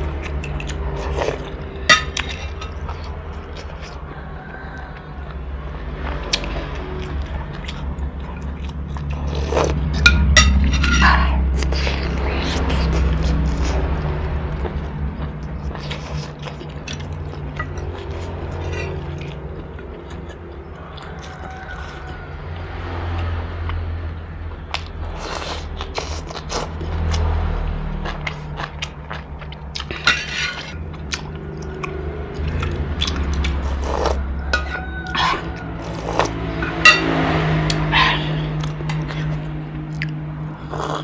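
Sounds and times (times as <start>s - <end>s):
chewing: 0.1s - 5.4s, 6.0s - 22.3s, 24.7s - 27.4s, 28.0s - 41.0s.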